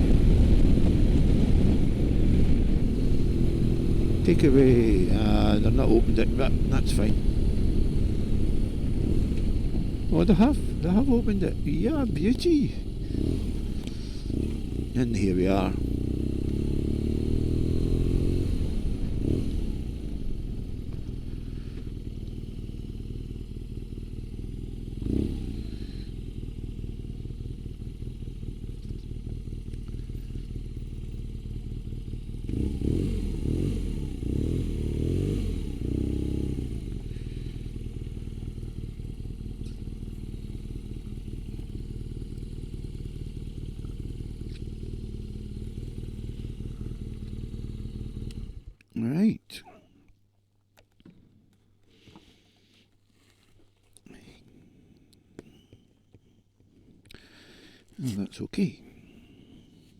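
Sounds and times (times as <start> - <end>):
motorcycle engine idling and revving: 0.0 - 49.2.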